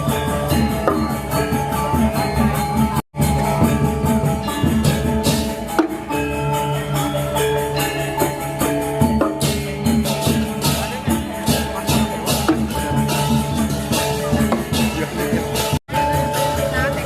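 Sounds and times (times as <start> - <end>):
ringing metallophone tones: 0.0 - 17.0.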